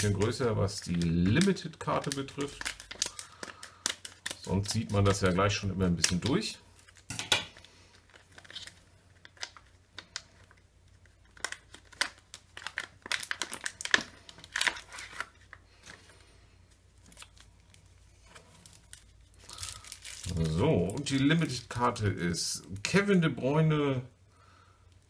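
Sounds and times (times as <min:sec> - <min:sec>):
plastic blister pack crinkling: 0:00.0 - 0:23.0.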